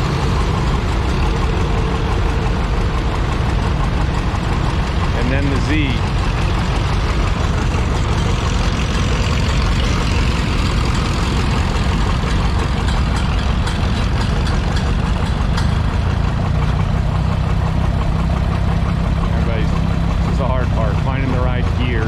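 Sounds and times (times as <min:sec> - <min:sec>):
other tractors running: 0:00.0 - 0:22.0
tractor engine running: 0:00.0 - 0:22.0.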